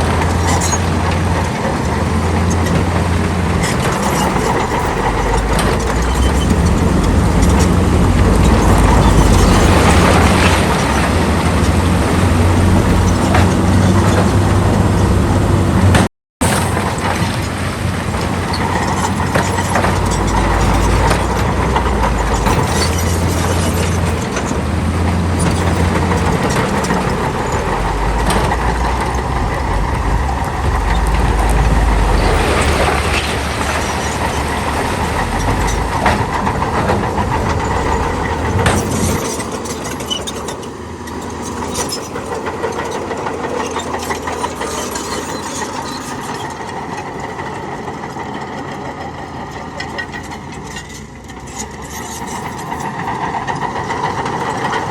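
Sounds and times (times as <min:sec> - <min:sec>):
clatter and rattle of machinery: 0:00.0 - 0:54.9
diesel machinery engine rumble: 0:00.0 - 0:54.9.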